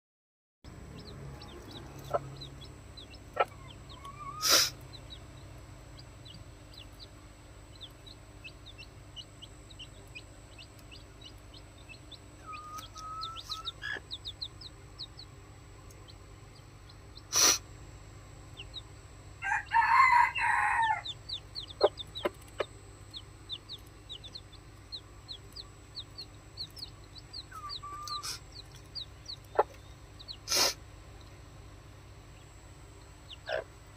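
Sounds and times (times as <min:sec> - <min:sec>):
chicks peeping: 0:00.8 - 0:17.6, 0:18.5 - 0:31.5, 0:32.2 - 0:33.9.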